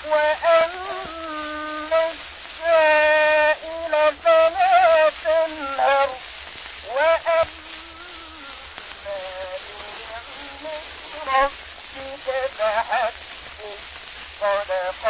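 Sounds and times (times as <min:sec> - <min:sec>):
man chanting recitation: 0:00.0 - 0:15.0
old recording hiss and crackle: 0:00.0 - 0:15.0.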